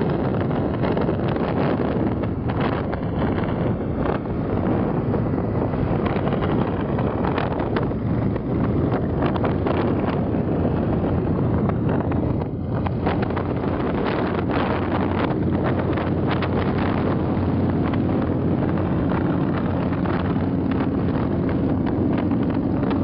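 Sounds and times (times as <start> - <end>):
motorcycle engines: 0.0 - 23.0
tyres on road: 0.0 - 23.0
wind buffeting microphone: 0.0 - 23.0.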